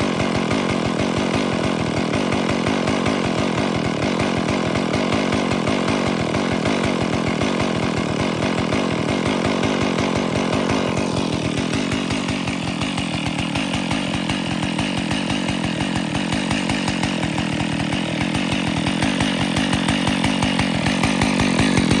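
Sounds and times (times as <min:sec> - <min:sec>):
chainsaw engine running: 0:00.0 - 0:22.0.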